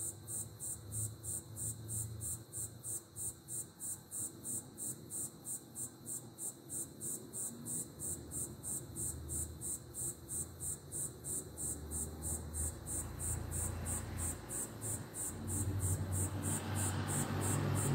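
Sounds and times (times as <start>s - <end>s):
cricket chirping: 0.0s - 17.9s.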